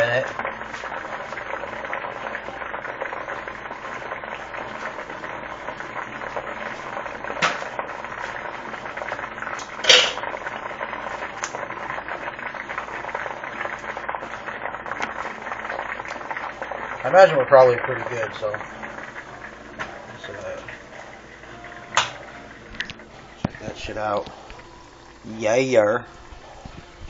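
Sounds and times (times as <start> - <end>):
hot oil sizzling and crackling: 0.0 - 27.0.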